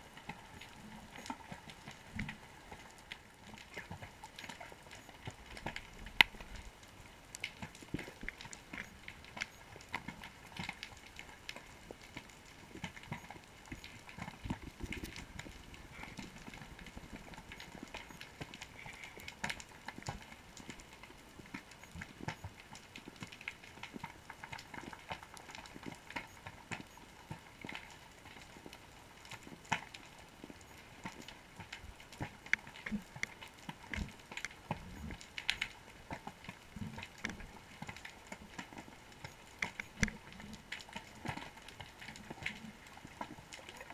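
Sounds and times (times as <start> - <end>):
underwater reef crackle: 0.0 - 43.9.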